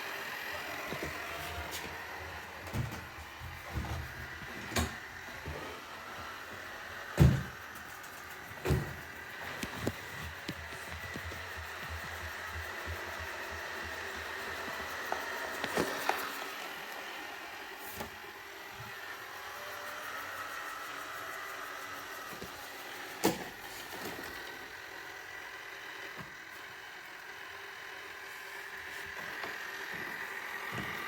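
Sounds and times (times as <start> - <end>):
robot vacuum motor hum: 0.0 - 31.0.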